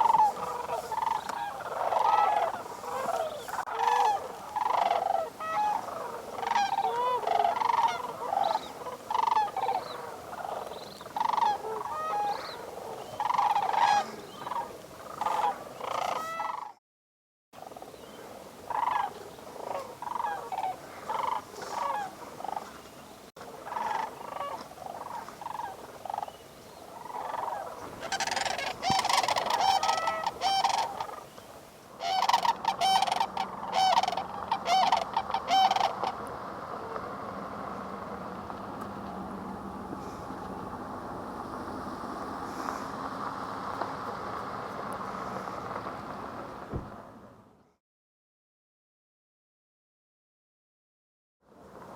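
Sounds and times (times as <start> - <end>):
flock of cranes calling: 0.0 - 16.8, 17.6 - 46.7.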